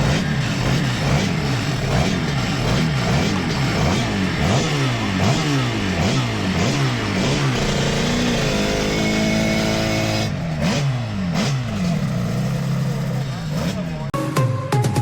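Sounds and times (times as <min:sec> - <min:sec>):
motorcycle engine revving: 0:00.0 - 0:14.1.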